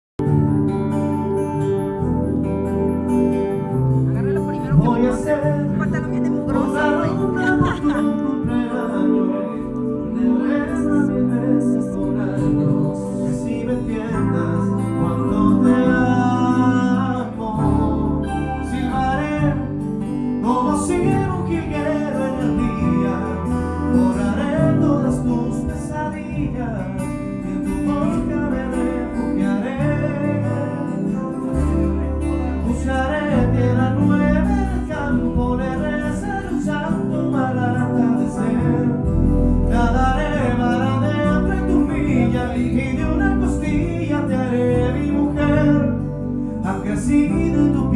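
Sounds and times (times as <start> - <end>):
band playing guitar and bass: 0.2 - 47.9
person singing: 3.6 - 47.9.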